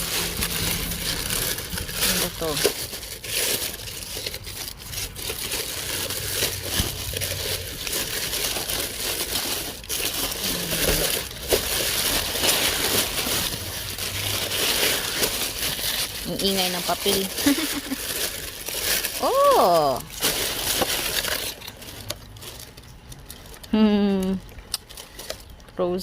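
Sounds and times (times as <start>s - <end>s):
paper being crushed by hand: 0.0s - 23.7s.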